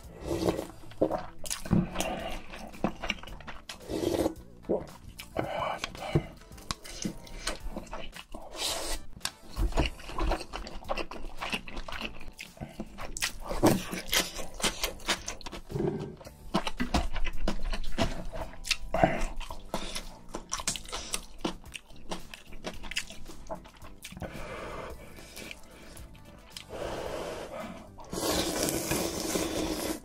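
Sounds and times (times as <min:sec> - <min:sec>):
chewing food: 0:00.0 - 0:30.0.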